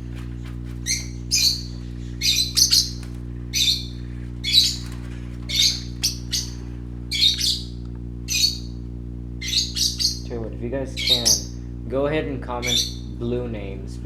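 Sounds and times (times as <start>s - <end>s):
parrots calling: 0.0s - 8.8s, 9.4s - 11.7s, 12.5s - 13.5s
steady low hum: 0.0s - 14.0s.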